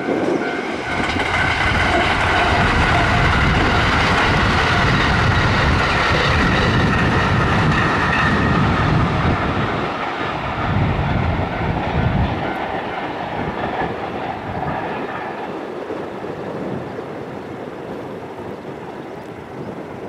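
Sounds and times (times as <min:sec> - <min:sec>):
electric train passing at speed: 0:00.0 - 0:20.0.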